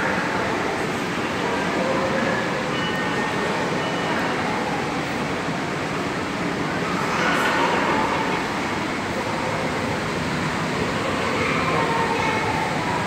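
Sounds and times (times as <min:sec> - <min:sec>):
aquarium rushing hum: 0:00.0 - 0:13.0.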